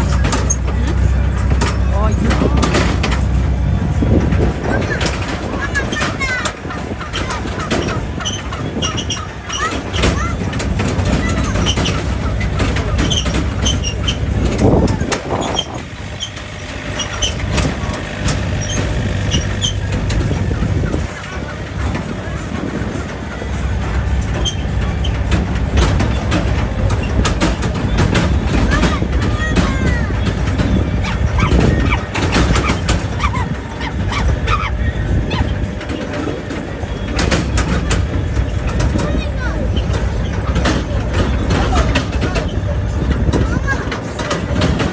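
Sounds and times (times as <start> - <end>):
clicks and rattles: 0.0 - 44.9
tractor engine running: 0.0 - 44.9.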